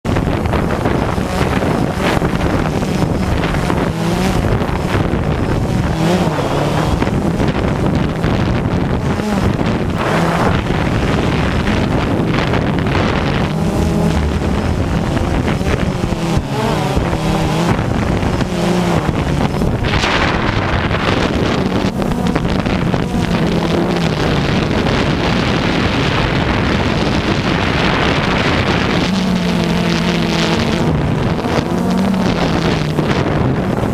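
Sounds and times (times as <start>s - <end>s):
drone propellers buzzing: 0.0s - 33.9s
wind buffeting microphone: 0.0s - 33.9s.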